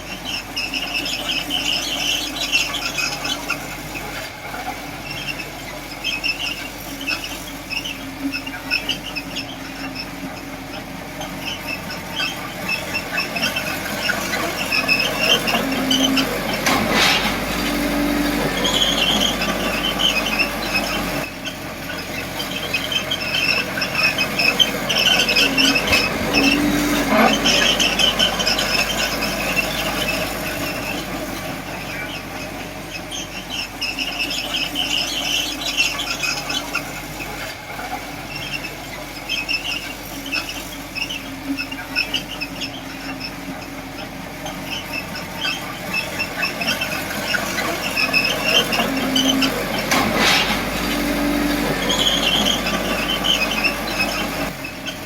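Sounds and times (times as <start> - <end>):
diesel engine drone: 0.0 - 55.0
steel tracks squealing: 0.0 - 55.0.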